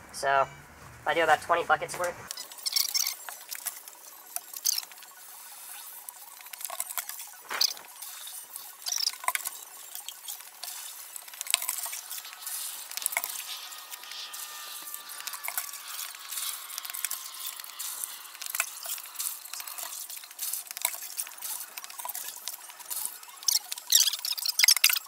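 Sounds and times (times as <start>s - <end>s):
crackling fizzing noise: 2.3s - 25.0s.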